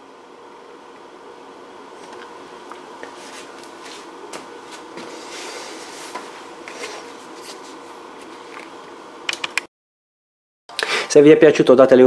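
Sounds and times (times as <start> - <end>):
faint hum: 0.0 - 9.7.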